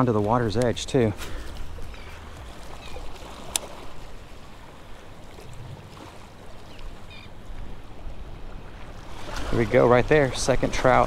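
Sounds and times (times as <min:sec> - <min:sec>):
sea water washing against rocks: 0:00.0 - 0:11.0.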